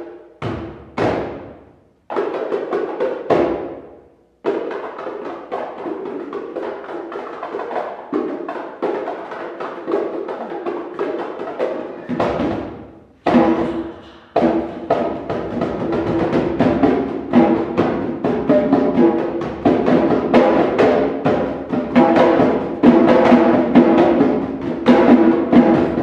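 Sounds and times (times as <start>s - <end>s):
hand drums playing fast: 4.4s - 26.0s.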